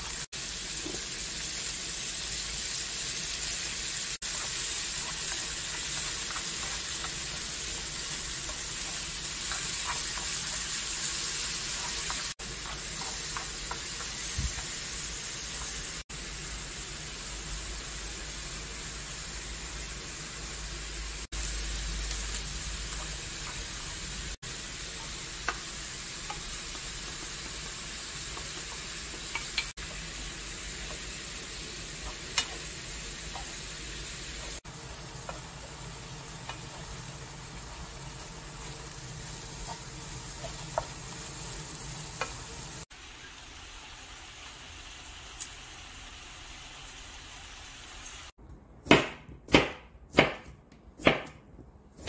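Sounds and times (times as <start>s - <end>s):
food sizzling in frying pan: 0.0s - 48.4s.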